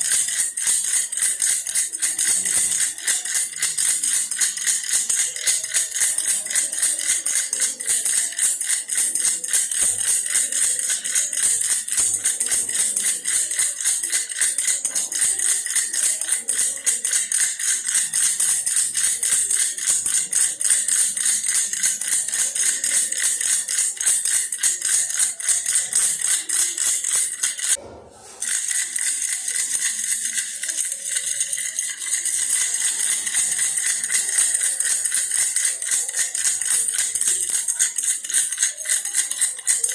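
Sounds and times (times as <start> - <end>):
toy rattle jingling: 0.0 - 39.9.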